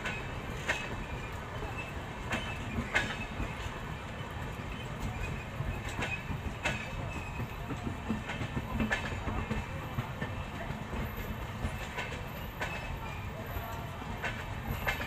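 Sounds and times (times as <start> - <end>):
train wheels rumbling on rail: 0.0 - 15.0
wheels clicking over rail joints: 0.0 - 15.0.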